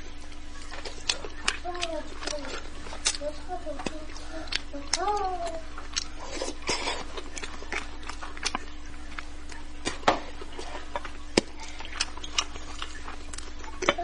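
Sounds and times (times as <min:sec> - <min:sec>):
steady low hum: 0:00.0 - 0:14.0
chewing mouth clicks and smacks: 0:00.2 - 0:03.2, 0:03.8 - 0:05.2, 0:05.8 - 0:14.0.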